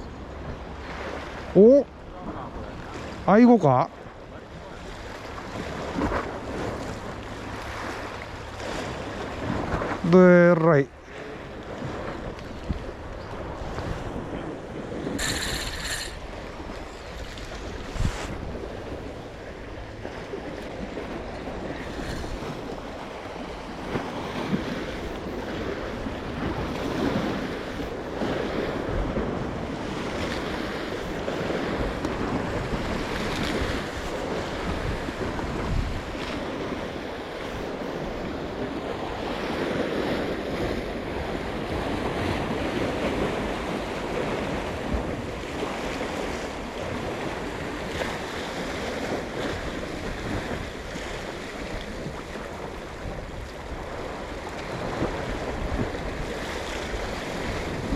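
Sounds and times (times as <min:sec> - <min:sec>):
waves on rocky shore: 0:00.0 - 0:57.9
wind rumbling on microphone: 0:10.9 - 0:57.9.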